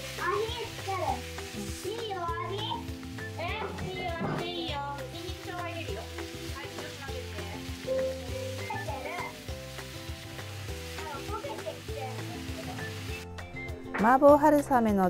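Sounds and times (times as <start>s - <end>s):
meat sizzling in a frying pan: 0.0s - 13.6s
soft background music: 0.0s - 15.0s.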